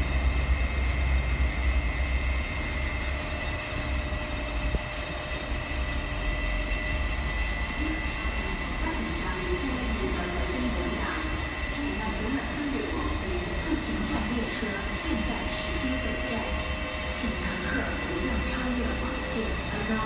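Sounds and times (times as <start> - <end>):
electric train rumble: 0.0 - 20.0
high-pitched whines: 0.0 - 20.0.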